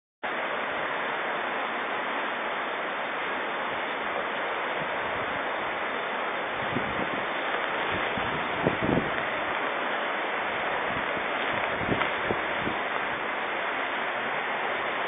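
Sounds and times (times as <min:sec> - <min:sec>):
flooded river rushing: 0:00.2 - 0:15.0.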